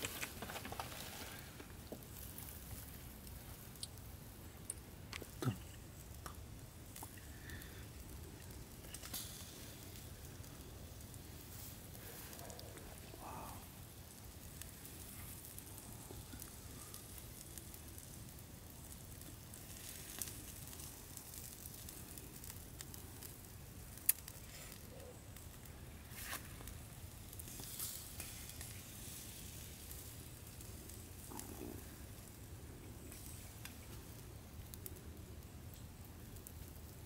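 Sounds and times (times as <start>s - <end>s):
fire crackling: 0.0s - 37.0s
frogs sizzling on a grill: 0.0s - 37.0s.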